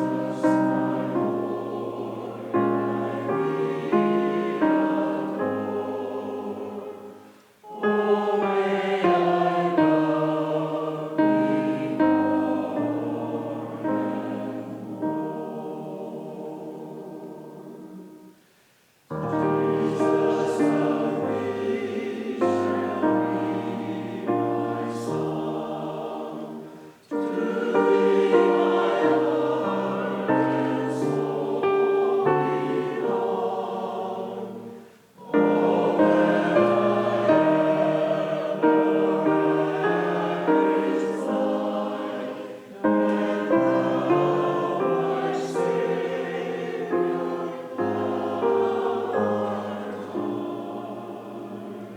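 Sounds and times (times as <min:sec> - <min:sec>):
choir singing: 0:00.0 - 0:18.5, 0:19.1 - 0:51.9.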